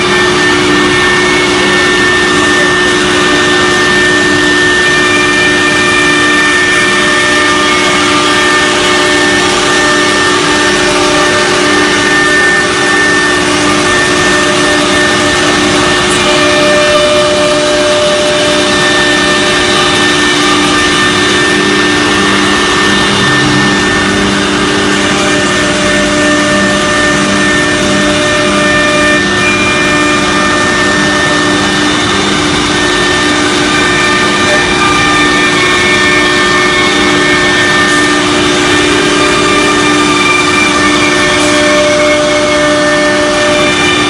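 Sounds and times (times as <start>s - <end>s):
cnc router machining: 0.0s - 44.0s
steady whining tones: 0.0s - 44.0s.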